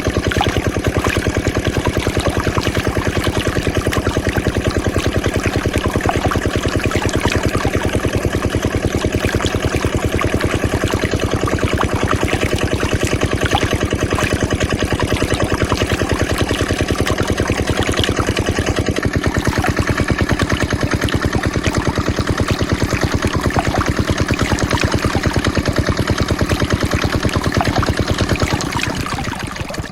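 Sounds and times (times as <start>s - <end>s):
small diesel engine chugging: 0.0s - 29.9s.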